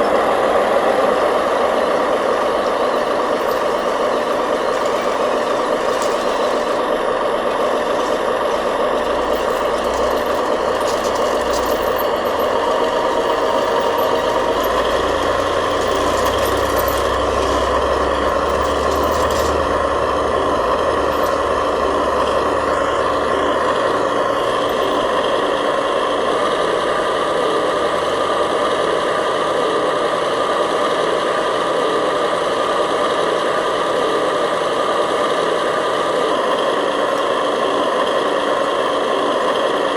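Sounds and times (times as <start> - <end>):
model machinery motors droning: 0.0 - 39.9.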